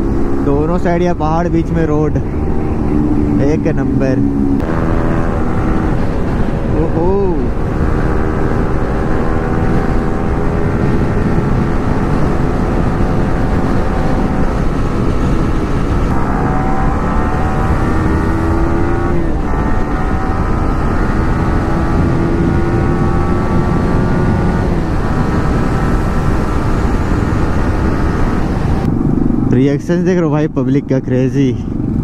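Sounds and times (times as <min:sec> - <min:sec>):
wind rumble on microphone: 0:00.0 - 0:29.8
motorcycle engine at speed: 0:00.0 - 0:32.0.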